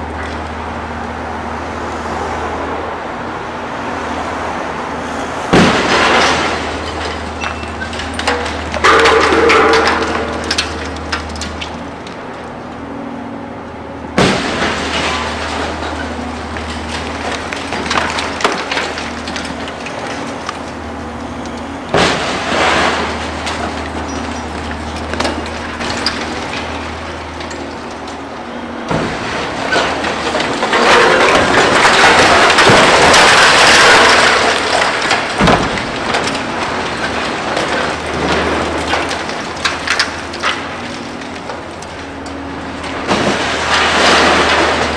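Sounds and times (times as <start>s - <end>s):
diesel engine droning: 0.0s - 44.9s
rubble crashing down: 5.5s - 12.1s, 14.2s - 44.9s
concrete cracking and clattering: 5.5s - 12.8s, 14.2s - 44.9s.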